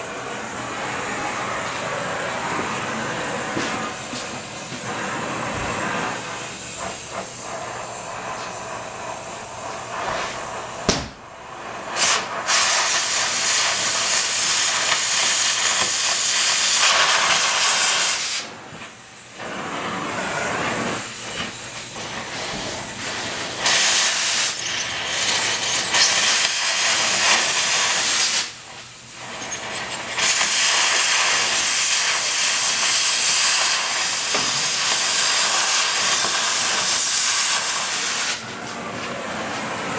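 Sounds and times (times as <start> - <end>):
loud even hissing: 0.0 - 18.5, 19.3 - 38.4.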